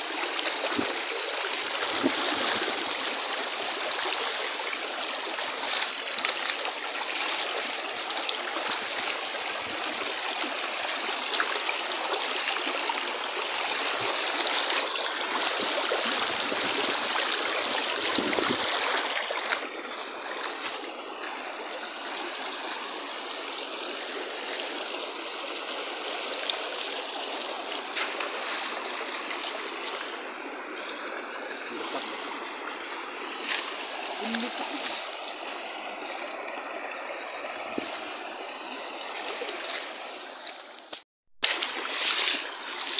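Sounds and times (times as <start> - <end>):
stream rushing over stones: 0.0 - 42.9.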